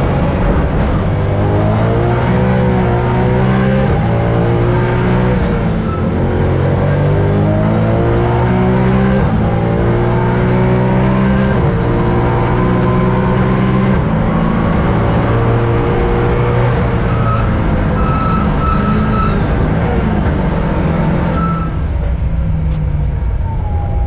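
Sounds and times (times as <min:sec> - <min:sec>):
race car engine at full throttle: 0:00.0 - 0:24.0.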